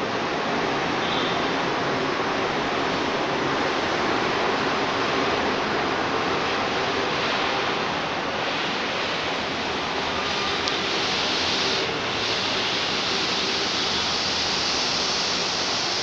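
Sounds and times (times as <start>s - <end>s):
monorail train rushing: 0.0s - 16.0s.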